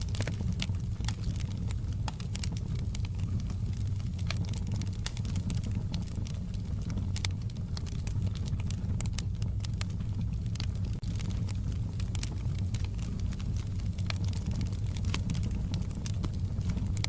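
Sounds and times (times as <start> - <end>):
fire crackling and popping: 0.0 - 17.0
low fire rumble: 0.0 - 17.0.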